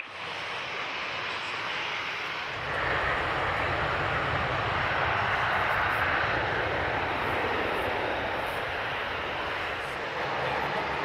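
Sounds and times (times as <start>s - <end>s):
jet airliner engines running: 0.0s - 11.0s.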